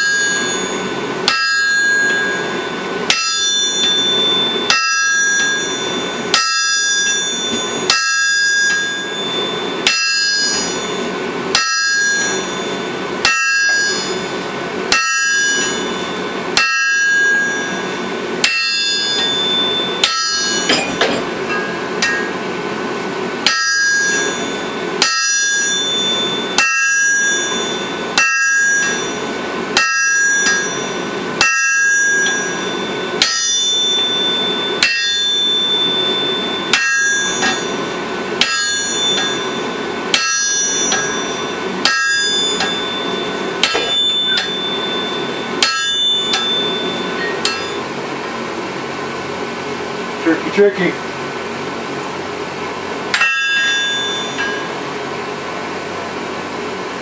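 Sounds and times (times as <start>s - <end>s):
hammer blows on anvil ringing: 0.0s - 22.5s, 23.4s - 47.9s, 53.1s - 54.9s.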